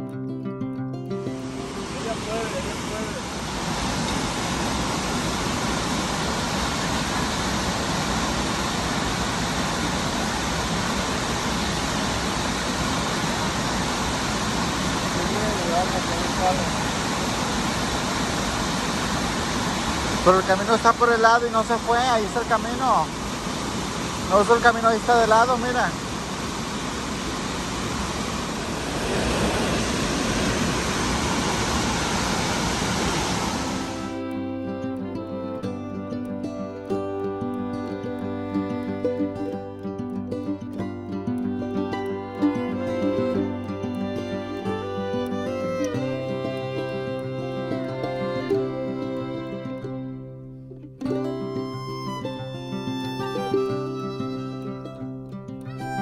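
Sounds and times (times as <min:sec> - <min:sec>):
waterfall roaring: 0:01.1 - 0:50.4, 0:51.1 - 0:56.0.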